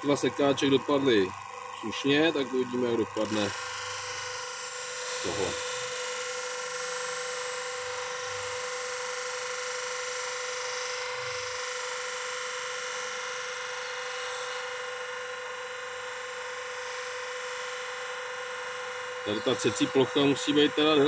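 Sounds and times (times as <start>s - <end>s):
bench grinder whining: 0.0s - 21.0s.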